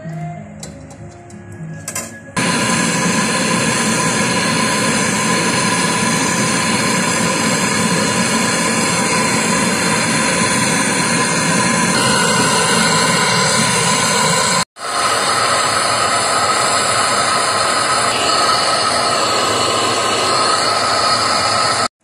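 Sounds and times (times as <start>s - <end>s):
gas torch flame hissing: 2.4s - 21.9s.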